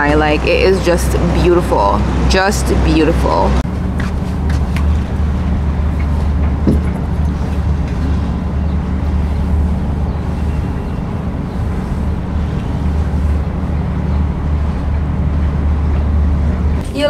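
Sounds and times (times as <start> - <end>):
ship engine drone: 0.0 - 17.0.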